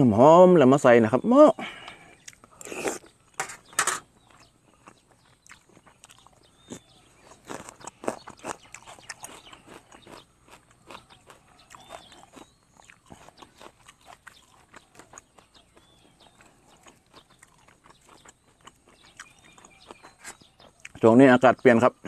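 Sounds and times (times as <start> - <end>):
man chewing food: 1.6 - 21.0.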